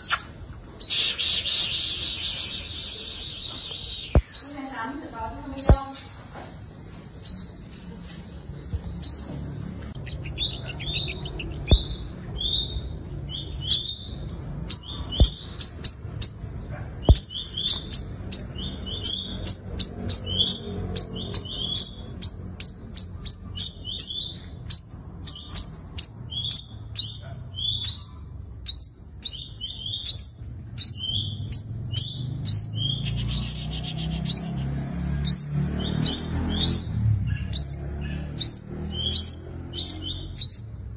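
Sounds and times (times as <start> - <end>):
sunbird singing high sharp chips: 0.0 - 40.9.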